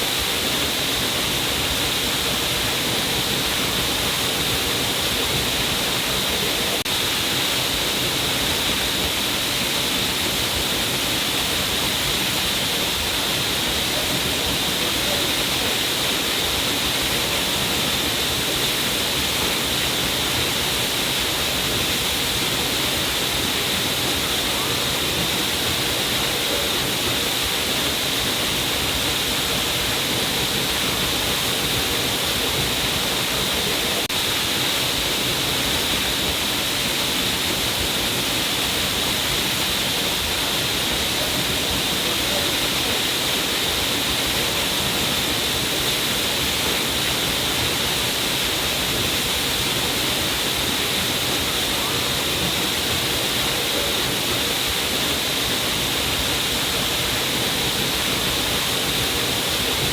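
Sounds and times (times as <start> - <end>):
water rushing down a cliff: 0.0 - 59.9.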